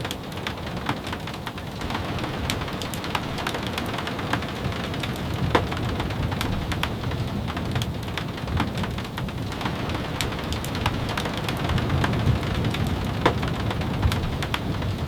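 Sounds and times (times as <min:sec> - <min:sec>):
rain drops tapping: 0:00.0 - 0:15.0.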